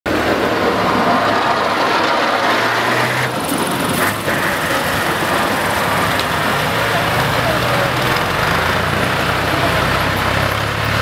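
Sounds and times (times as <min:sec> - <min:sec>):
truck engine humming: 0:00.1 - 0:11.0
plough blade scraping snow: 0:00.3 - 0:10.6.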